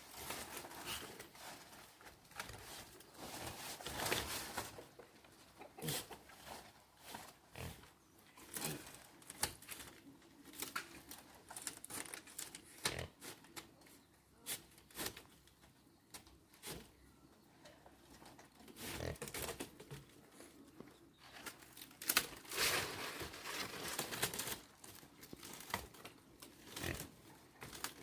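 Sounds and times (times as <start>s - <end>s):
rustling and crackling: 0.0s - 17.0s, 17.6s - 28.0s.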